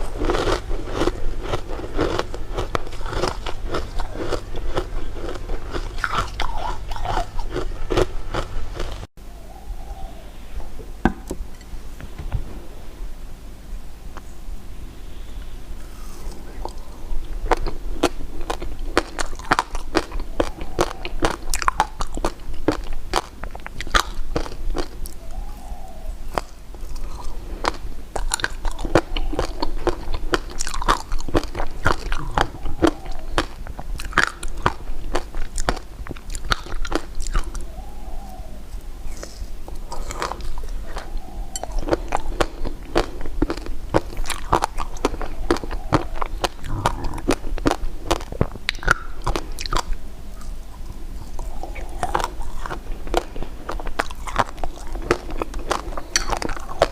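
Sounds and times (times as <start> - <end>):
chewing hard candy crunches: 0.0 - 9.1, 16.3 - 25.2, 26.3 - 37.6, 39.2 - 50.6, 51.2 - 56.9.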